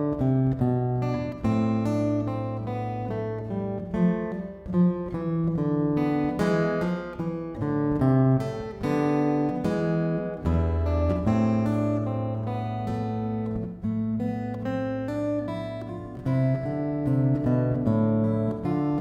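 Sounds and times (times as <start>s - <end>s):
acoustic guitar playing chords: 0.0s - 19.0s.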